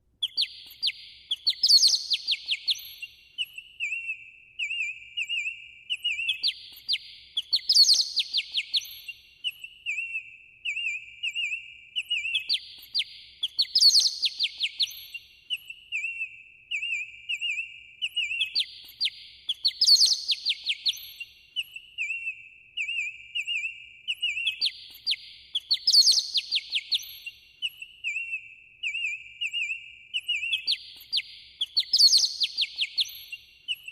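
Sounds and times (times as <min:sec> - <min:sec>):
songbird chirping and trilling: 0:00.2 - 0:33.9.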